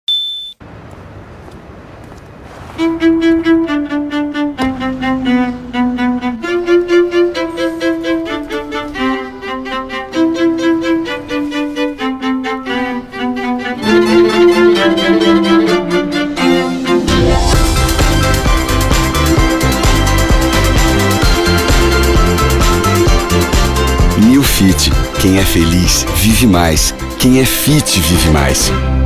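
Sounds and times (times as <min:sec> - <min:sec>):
bowed string melody: 0:02.7 - 0:29.0.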